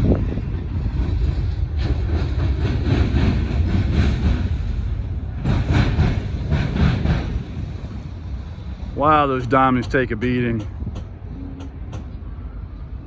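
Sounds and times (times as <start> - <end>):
locomotive engine and rail rumble: 0.0 - 13.0
train wheels clacking over crossings: 0.2 - 12.2.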